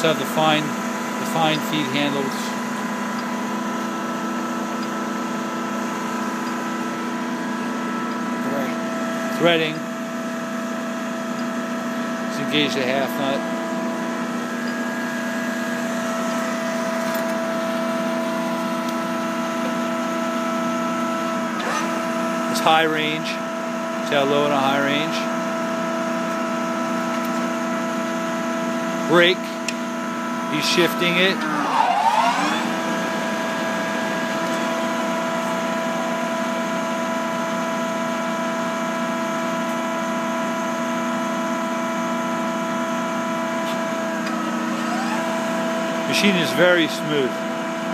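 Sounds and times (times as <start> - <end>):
lathe humming: 0.0 - 47.9.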